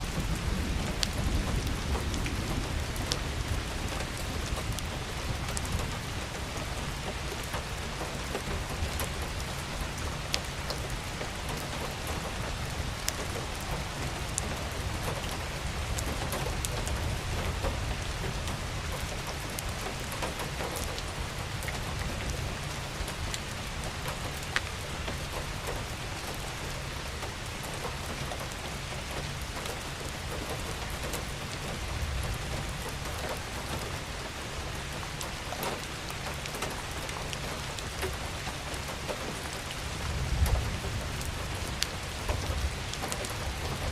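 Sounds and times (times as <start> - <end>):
rain falling on surfaces: 0.0 - 43.9.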